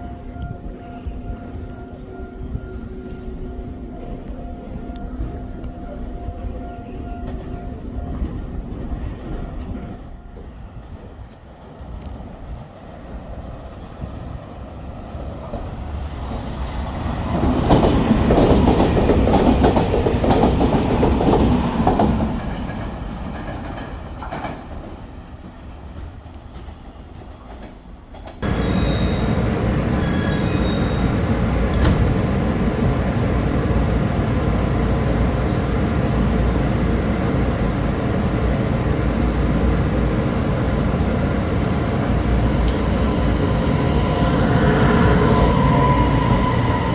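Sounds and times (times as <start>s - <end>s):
train running on rails: 0.0s - 46.9s.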